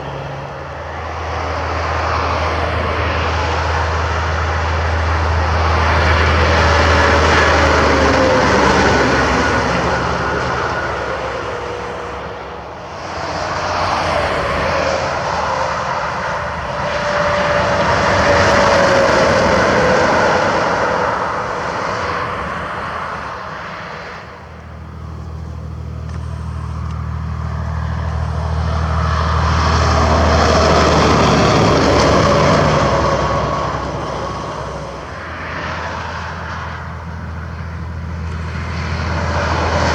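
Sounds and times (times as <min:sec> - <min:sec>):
heavy trucks passing: 0:00.0 - 0:39.9.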